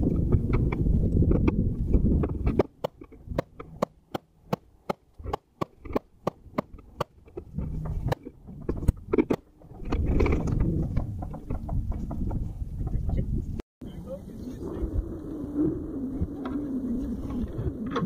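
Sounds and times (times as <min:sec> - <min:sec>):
low rumble: 0:00.0 - 0:04.5, 0:06.1 - 0:18.0.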